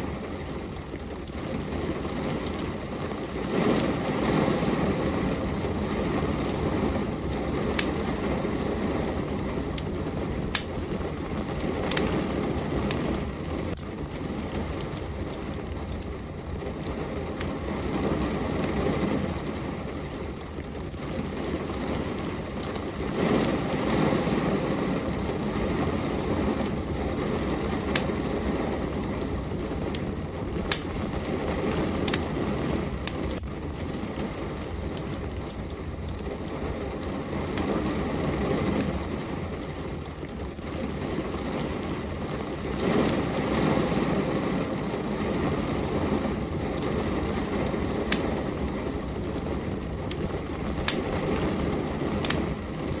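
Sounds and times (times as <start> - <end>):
fireplace fire crackling: 0.0 - 53.0
rain hissing: 0.0 - 53.0.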